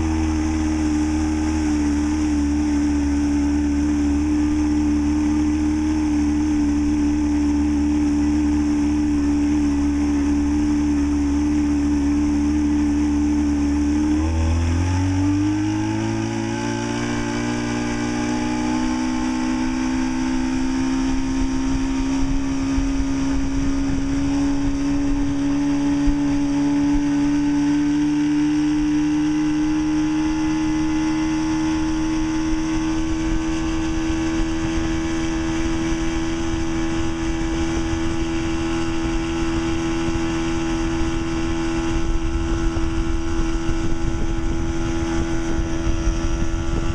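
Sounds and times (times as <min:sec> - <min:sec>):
outboard motor running: 0:00.0 - 0:46.9.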